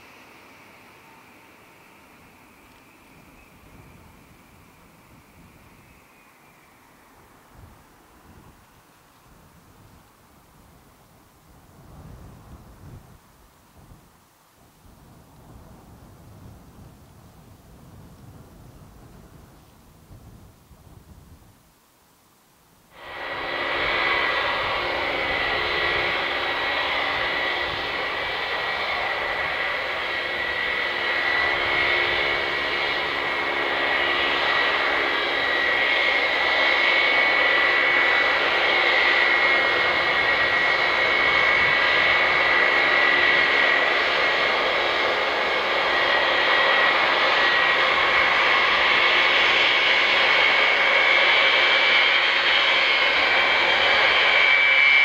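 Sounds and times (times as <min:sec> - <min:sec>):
jet engines rumbling with high whine: 0:00.0 - 0:14.0, 0:22.9 - 0:55.0.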